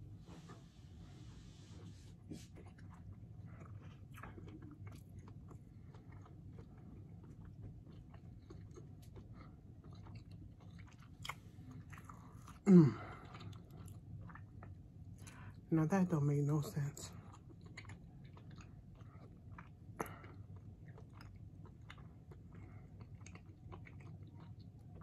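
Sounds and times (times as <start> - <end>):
person chewing with mouth clicks: 2.3 - 15.6, 17.1 - 25.0.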